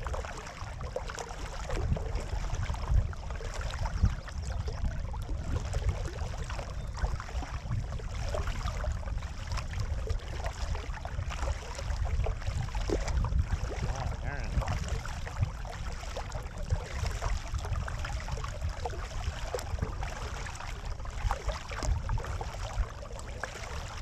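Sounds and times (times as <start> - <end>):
kayak paddles splashing: 0.0 - 24.0
low steady rumble: 0.0 - 24.0
water rushing along hull: 0.0 - 24.0.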